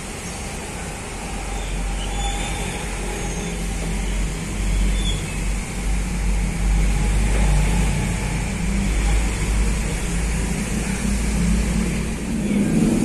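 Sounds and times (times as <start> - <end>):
bus engine rumbling: 0.0 - 13.0
road traffic hiss: 0.0 - 13.0.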